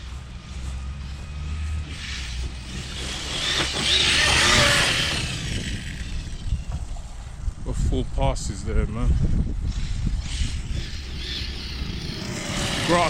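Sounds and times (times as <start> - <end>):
electric motor whine: 0.0 - 7.6, 9.5 - 13.0.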